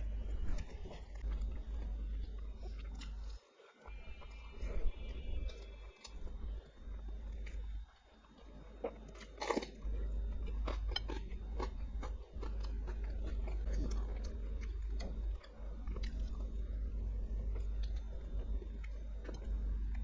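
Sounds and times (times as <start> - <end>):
chewing and crunching food: 0.0 - 20.0
low steady hum: 0.0 - 20.0.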